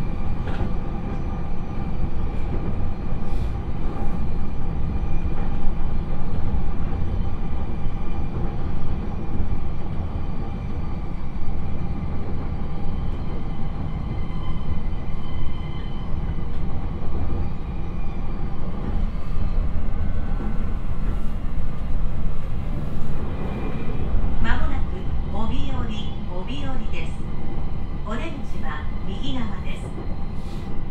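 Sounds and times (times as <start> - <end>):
whining roar of rail: 0.0 - 30.9.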